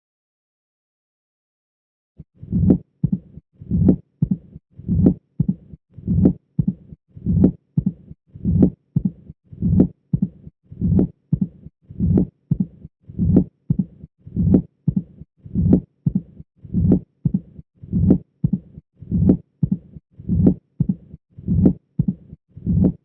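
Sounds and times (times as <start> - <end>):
heartbeat through stethoscope: 2.4 - 23.0
low diastolic heart rumble: 2.4 - 23.0.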